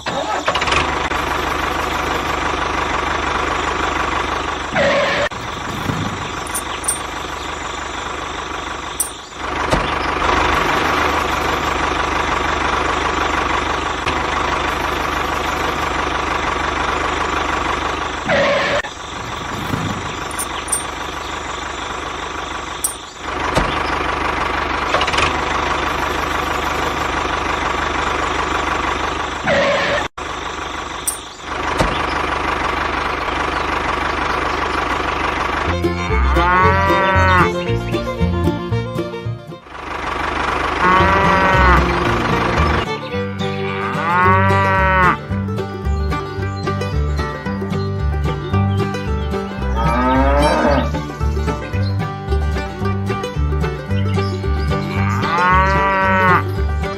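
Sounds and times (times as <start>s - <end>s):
small engine running: 0.0s - 56.9s.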